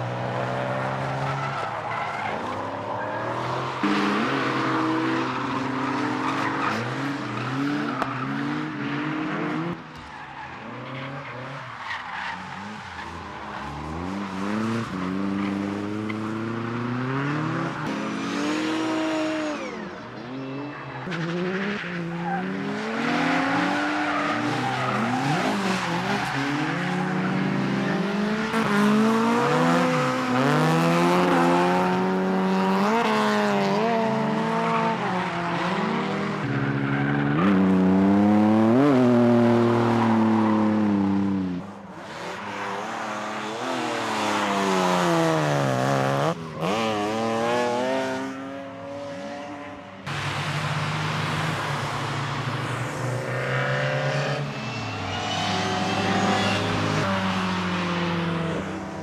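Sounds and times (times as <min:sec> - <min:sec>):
race car engines revving: 0:00.0 - 0:59.0
tyres squealing and skidding: 0:00.3 - 0:16.6, 0:17.2 - 0:41.2, 0:42.0 - 0:48.4, 0:50.0 - 0:59.0.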